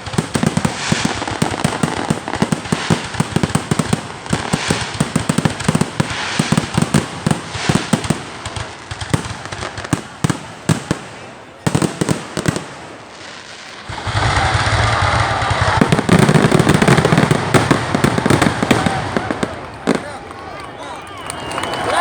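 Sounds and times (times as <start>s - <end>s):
fireworks popping and crackling: 0.0s - 22.0s.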